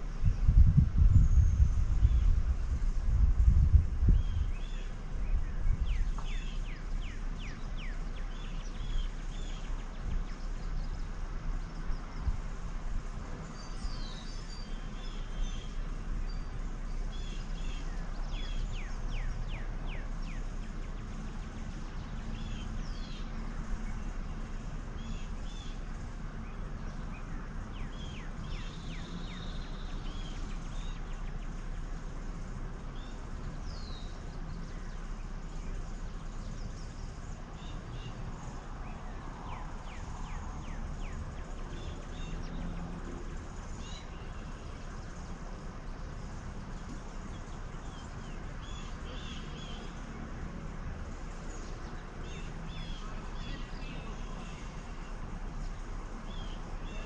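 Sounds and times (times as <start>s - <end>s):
small birds chirping: 0.0s - 57.0s
steady low rumble: 0.0s - 57.0s.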